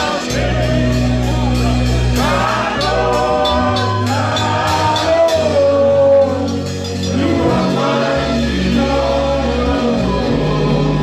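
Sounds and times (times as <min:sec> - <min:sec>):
keyboard accompaniment: 0:00.0 - 0:11.0
person singing: 0:00.0 - 0:11.0.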